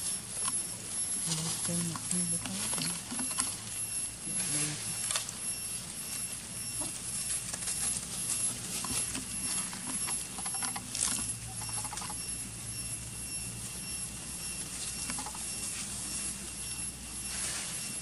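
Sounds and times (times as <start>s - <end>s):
faint steady hum: 0.0s - 18.0s
monkeys rustling dry leaves: 0.0s - 18.0s.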